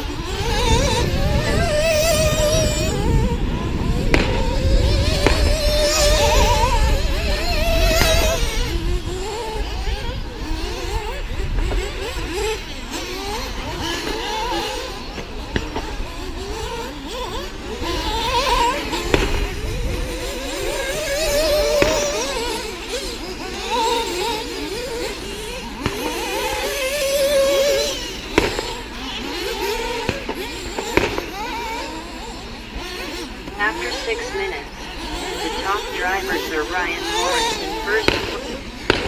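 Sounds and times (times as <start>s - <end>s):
model car motors whining: 0.0s - 39.0s.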